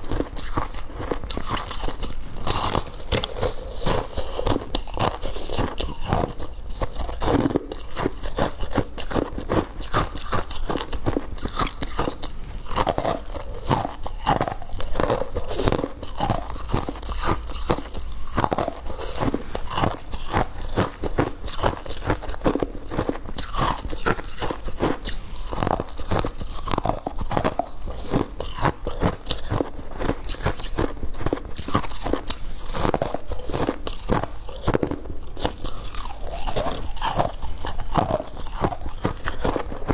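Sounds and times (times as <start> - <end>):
chewing and crunching ice: 0.0 - 39.9.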